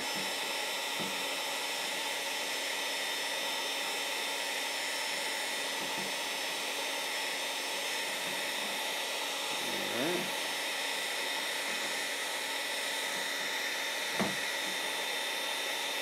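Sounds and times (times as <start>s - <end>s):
fan motor whine: 0.0s - 16.0s
heat gun blowing air: 0.0s - 16.0s.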